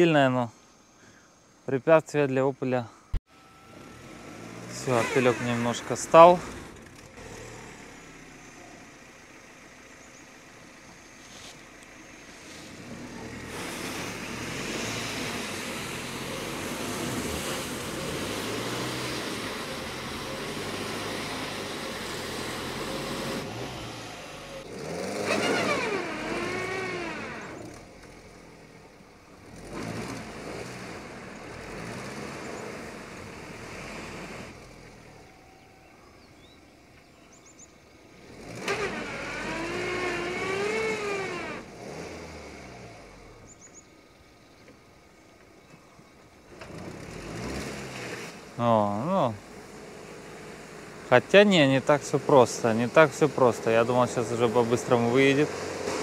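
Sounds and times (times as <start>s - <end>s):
car engine revving in mud: 3.7s - 35.5s, 37.4s - 43.8s, 46.4s - 56.0s.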